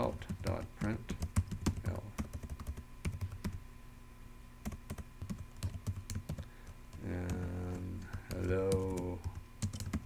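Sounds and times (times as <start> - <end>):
keyboard typing: 0.0 - 3.6, 4.6 - 10.0.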